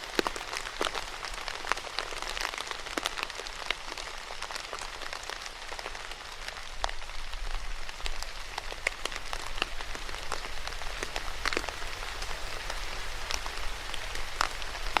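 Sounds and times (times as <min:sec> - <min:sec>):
raindrops striking a surface: 0:00.0 - 0:15.0
steady rain hiss: 0:00.0 - 0:15.0.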